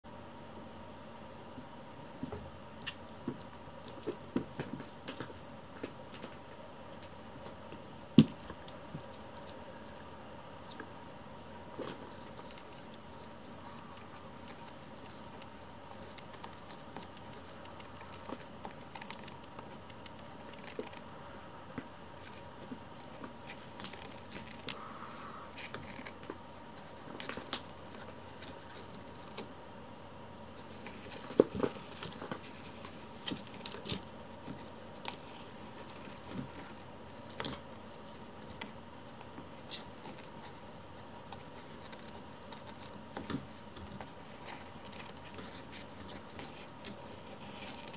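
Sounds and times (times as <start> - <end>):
room hiss: 0.1 - 47.9
kitten scratching and gnawing wood: 2.2 - 29.7, 30.4 - 47.9.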